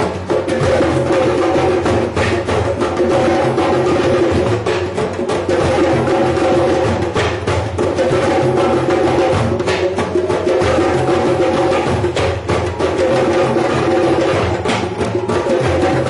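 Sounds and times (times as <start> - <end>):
hand drums playing together: 0.0 - 16.0
wood-block-like clacks: 0.0 - 16.0.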